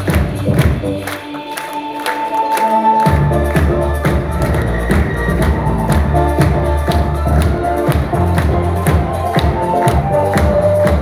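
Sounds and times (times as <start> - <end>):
upbeat music over loudspeakers: 0.0 - 11.0.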